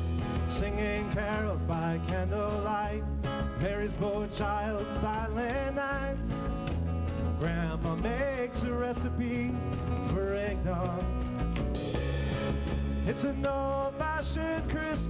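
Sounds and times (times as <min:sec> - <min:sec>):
country rock band playing: 0:00.0 - 0:15.0
man singing: 0:00.4 - 0:06.4, 0:07.3 - 0:11.4, 0:12.2 - 0:15.0.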